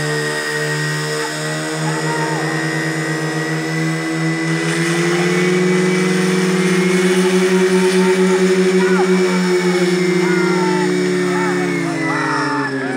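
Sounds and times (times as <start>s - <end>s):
pump engine running at high revs: 0.0s - 12.9s.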